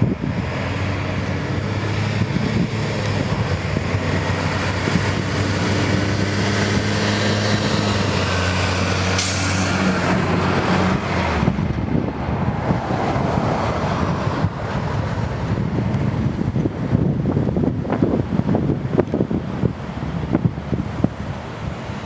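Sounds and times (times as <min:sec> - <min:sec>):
jet engine rumble: 0:00.0 - 0:22.0
low engine hum: 0:00.0 - 0:22.0
wind on microphone: 0:00.0 - 0:22.0.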